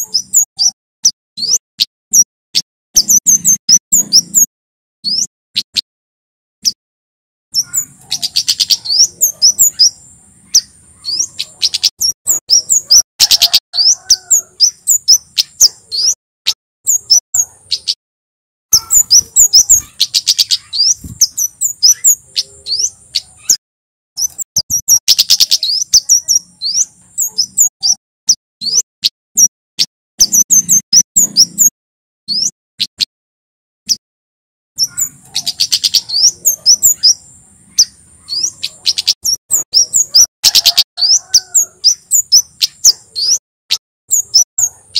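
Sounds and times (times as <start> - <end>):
high buzzing bird trill: 0.0 - 2.3, 3.0 - 5.8, 7.5 - 16.2, 16.9 - 18.0, 18.7 - 23.6, 24.2 - 29.5, 30.2 - 31.7, 34.8 - 43.4, 44.1 - 44.9
bird calling with sharp chips: 0.0 - 5.9, 7.5 - 16.2, 16.9 - 18.0, 18.7 - 23.6, 24.2 - 31.7, 32.3 - 33.1, 34.8 - 44.9.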